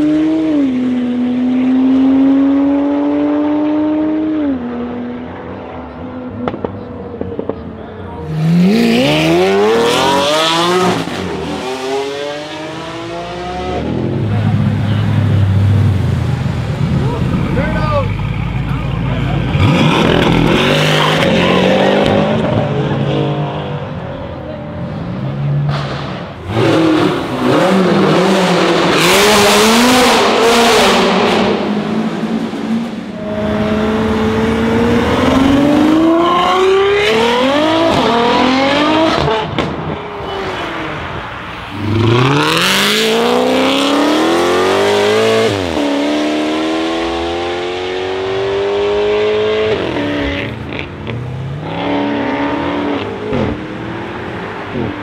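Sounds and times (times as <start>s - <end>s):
cars accelerating hard: 0.0s - 55.0s.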